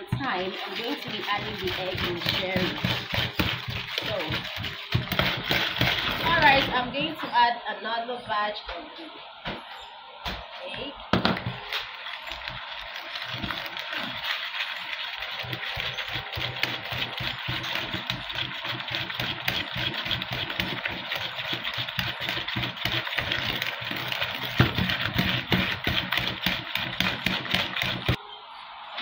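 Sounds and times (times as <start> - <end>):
hand beater in plastic bowl: 0.0 - 6.9, 11.2 - 28.2.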